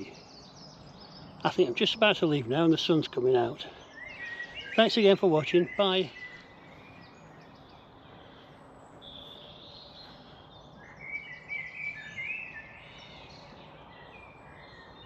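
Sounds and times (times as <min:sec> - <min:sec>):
birds singing: 0:00.0 - 0:15.0
faint outdoor background: 0:00.0 - 0:15.0.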